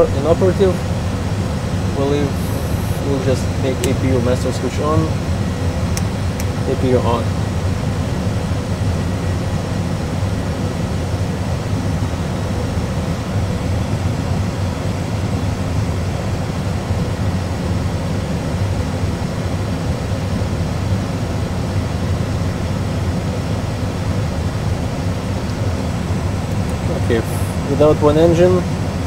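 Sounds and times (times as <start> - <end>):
faint steady hum: 0.0 - 29.0
low engine and airflow rumble: 0.0 - 29.0.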